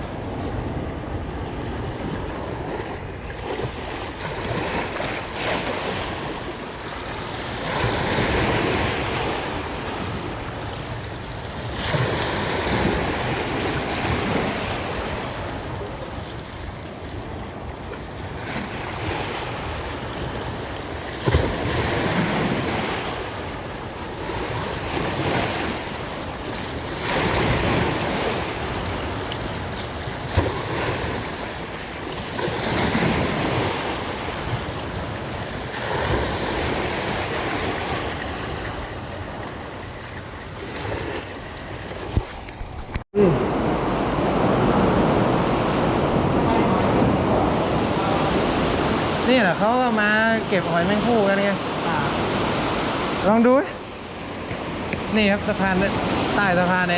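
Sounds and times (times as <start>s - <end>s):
sea waves washing on shore: 0.0s - 56.9s
wind buffeting microphone: 0.0s - 56.9s.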